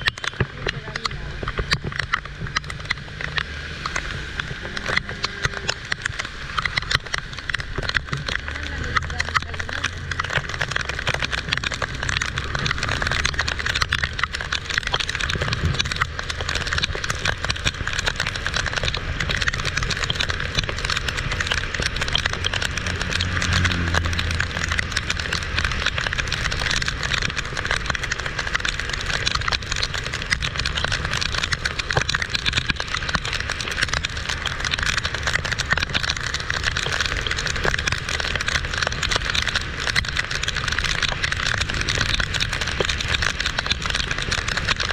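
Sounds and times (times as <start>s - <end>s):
heavy rain pouring: 0.0s - 44.9s
low rumble: 0.0s - 44.9s.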